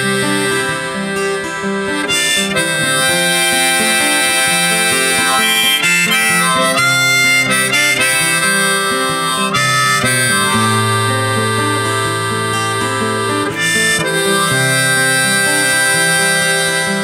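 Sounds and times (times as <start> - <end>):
guitar: 0.0 - 17.0
harmonica: 0.0 - 17.0.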